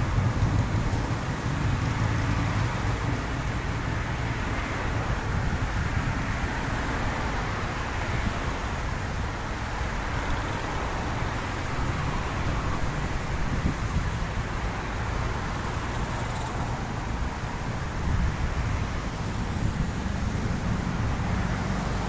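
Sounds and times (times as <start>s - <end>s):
car engines rumbling: 0.0s - 22.0s
tyres hissing on wet road: 0.0s - 22.0s.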